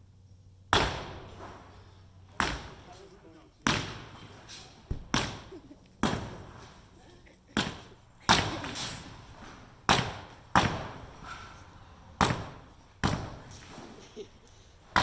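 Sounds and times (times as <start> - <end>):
hammer striking concrete: 0.7 - 6.7, 7.6 - 14.0.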